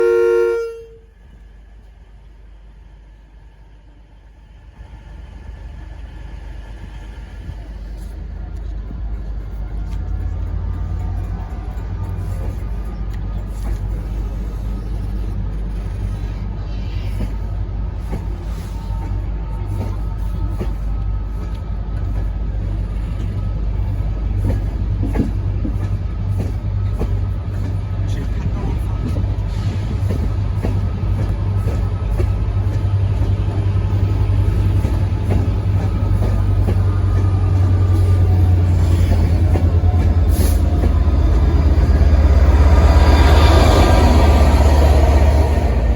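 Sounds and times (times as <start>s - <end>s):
diesel train rumbling: 0.0s - 45.9s.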